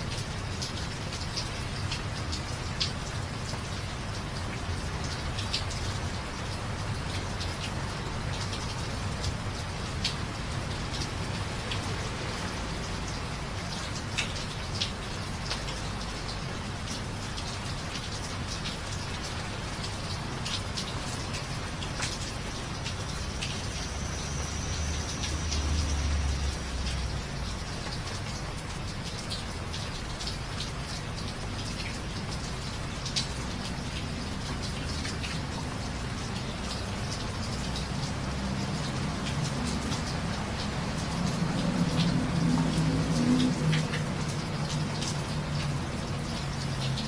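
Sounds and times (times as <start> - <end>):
rain on hard surfaces: 0.0 - 47.0.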